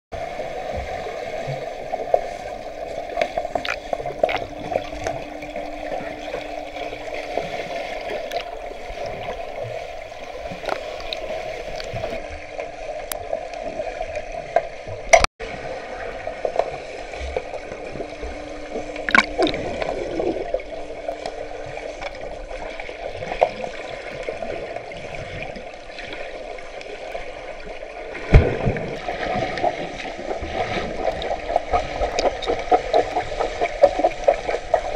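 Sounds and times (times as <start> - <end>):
muffled underwater rush: 0.1 - 34.9.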